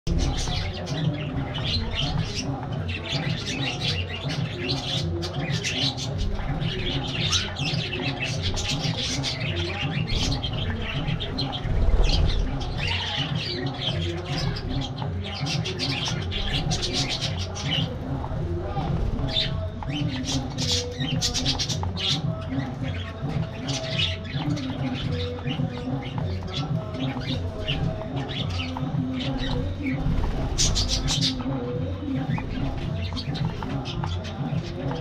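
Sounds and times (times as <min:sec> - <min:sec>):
budgerigars chattering: 0:00.1 - 0:35.0.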